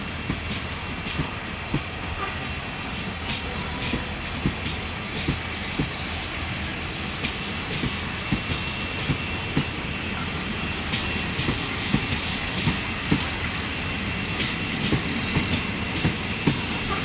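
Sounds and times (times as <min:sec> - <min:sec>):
train rumble and hiss: 0:00.0 - 0:17.0
train wheels knocking on rails: 0:00.0 - 0:17.0.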